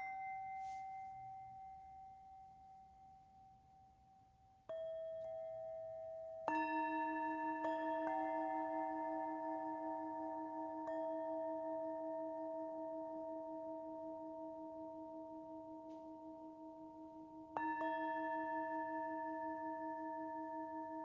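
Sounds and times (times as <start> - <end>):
singing bowls ringing: 0.0 - 3.6, 4.7 - 21.0.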